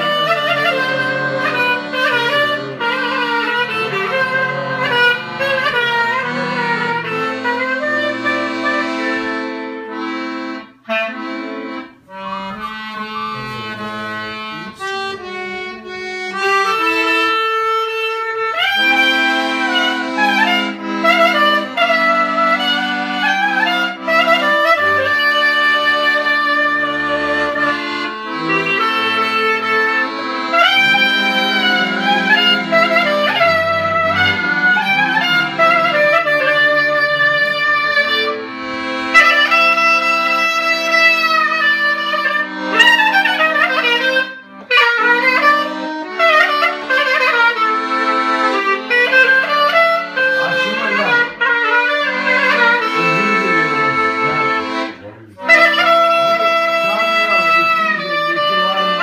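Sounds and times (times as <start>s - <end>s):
accordion chords: 0.0s - 59.0s
bass notes: 0.0s - 59.0s
clarinet melody: 0.0s - 59.0s.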